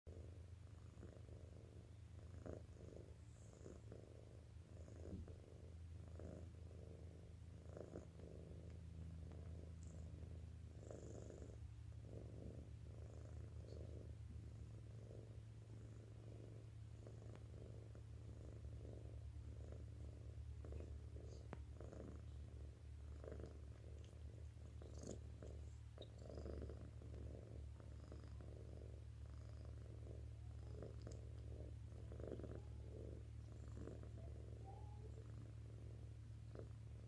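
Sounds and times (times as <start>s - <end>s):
cat purring: 0.1s - 37.0s.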